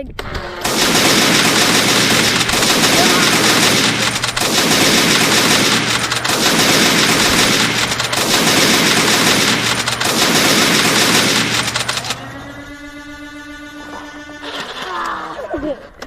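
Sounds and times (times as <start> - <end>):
minigun firing: 0.0 - 15.4
steady pitched tone: 0.6 - 15.0.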